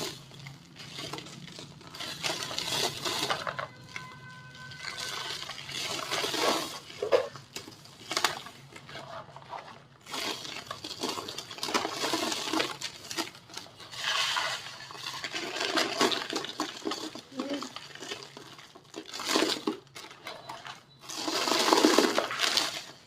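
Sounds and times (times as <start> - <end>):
cement shapes crunching and crackling: 0.0 - 23.0.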